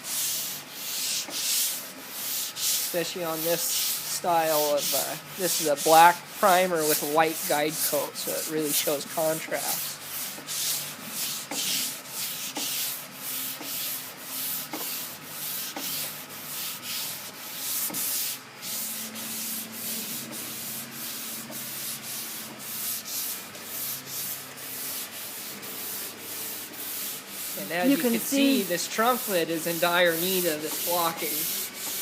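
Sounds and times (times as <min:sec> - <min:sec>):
hand sanding strokes: 0:00.0 - 0:32.0.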